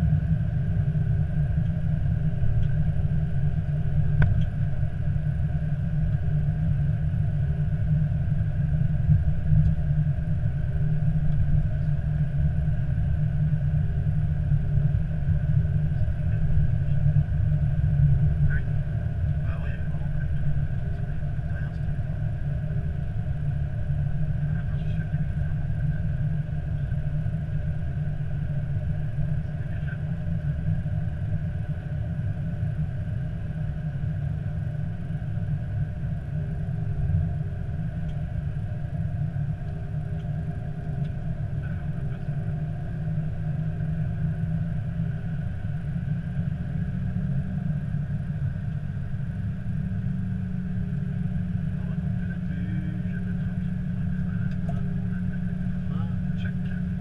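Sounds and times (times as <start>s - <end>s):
aircraft cockpit rumble: 0.0s - 57.0s
faint steady whine: 0.0s - 57.0s.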